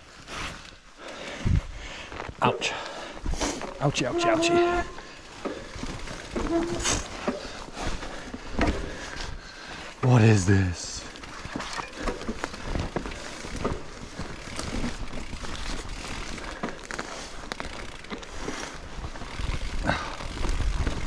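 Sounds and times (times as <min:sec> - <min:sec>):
bike knocking and rattling: 0:00.0 - 0:21.0
bike tyres rumbling on rocks: 0:01.1 - 0:21.0.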